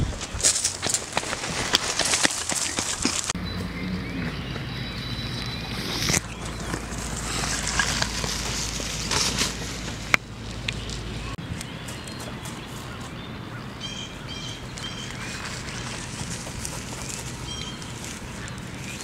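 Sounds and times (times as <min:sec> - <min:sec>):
outdoor ambience: 0:00.0 - 0:19.0.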